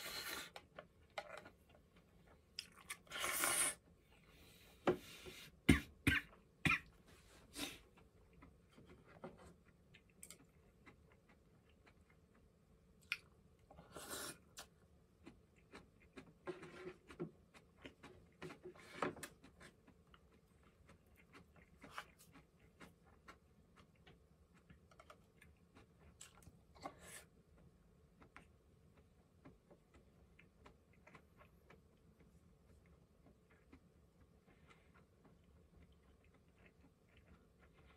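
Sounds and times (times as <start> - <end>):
faint chewing: 6.1 - 37.9.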